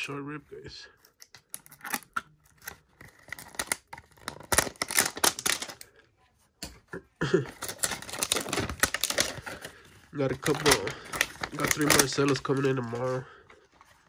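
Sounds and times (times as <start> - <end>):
plastic packaging crinkling and tearing: 1.0 - 6.0, 7.2 - 14.0.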